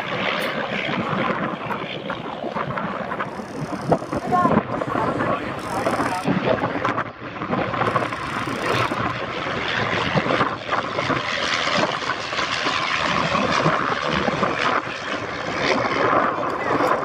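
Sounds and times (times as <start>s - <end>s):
aircraft engine rushing: 0.0s - 17.0s.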